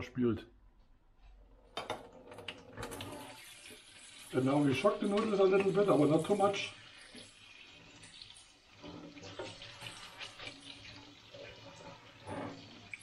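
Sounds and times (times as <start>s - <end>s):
tap water running: 1.6s - 13.0s.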